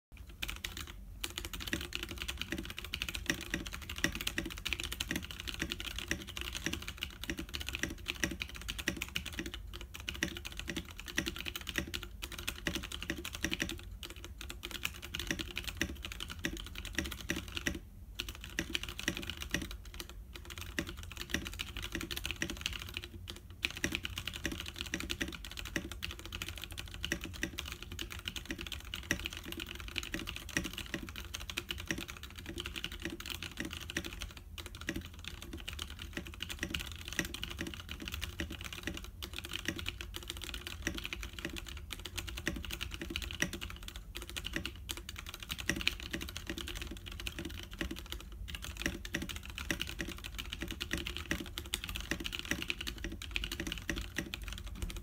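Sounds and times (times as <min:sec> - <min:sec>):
fast typing on mechanical keyboard: 0:00.2 - 0:55.0.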